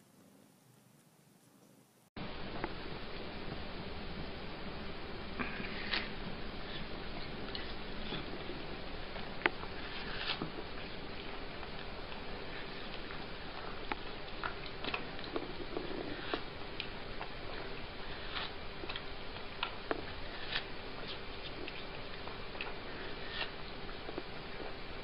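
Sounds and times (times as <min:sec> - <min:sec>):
faint hum: 0:00.0 - 0:25.0
steady hiss: 0:00.0 - 0:25.0
cat chewing watermelon: 0:03.4 - 0:25.0.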